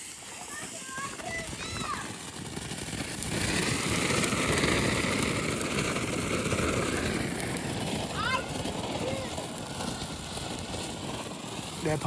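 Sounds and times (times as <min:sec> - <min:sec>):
firework fountain hissing and crackling: 0:00.0 - 0:12.0.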